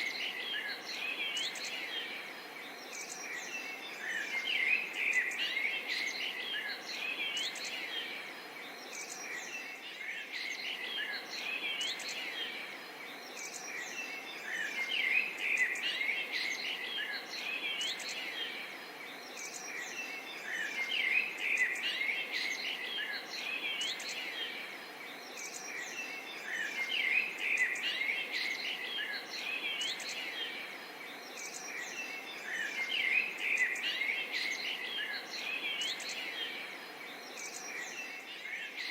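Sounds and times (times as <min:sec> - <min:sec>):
small birds chirping: 0:00.0 - 0:38.9
steady background hiss: 0:00.0 - 0:38.9.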